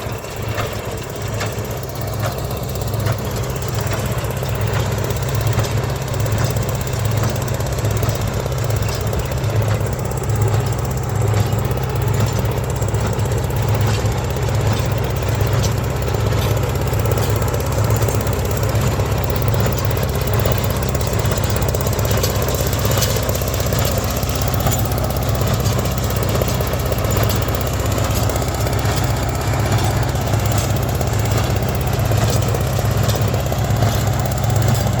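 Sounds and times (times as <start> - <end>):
tractor engine low beat: 0.0 - 35.0.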